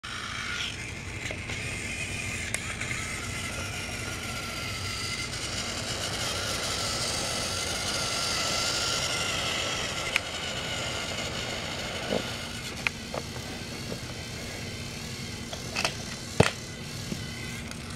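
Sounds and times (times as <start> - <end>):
toy train motor whirring: 0.0 - 17.9
wheels rattling on plastic track: 0.2 - 14.7.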